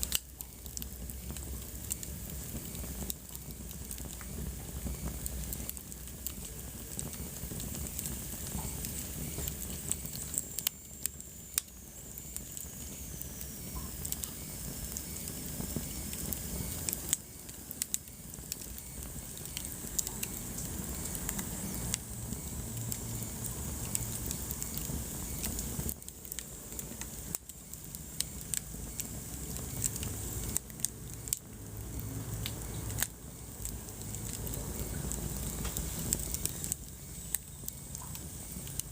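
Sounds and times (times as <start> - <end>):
fire crackling and popping: 0.0 - 38.9
fire rumbling and hissing: 0.0 - 38.9.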